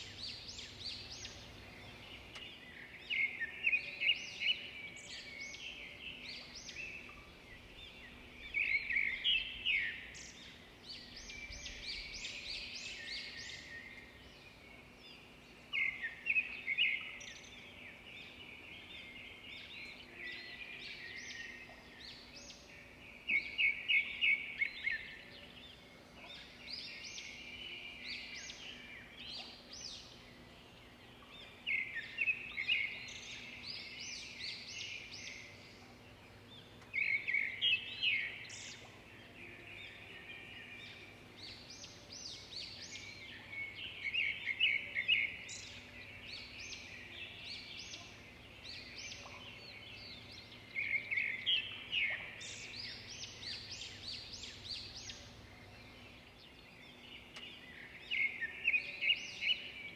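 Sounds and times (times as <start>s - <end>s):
birds singing and chirping: 0.0s - 59.9s.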